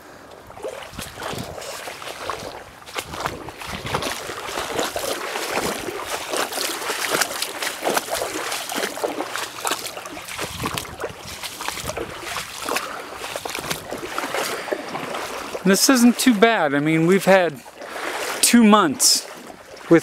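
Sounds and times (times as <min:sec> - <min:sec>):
footsteps splashing in water: 0:00.0 - 0:20.0.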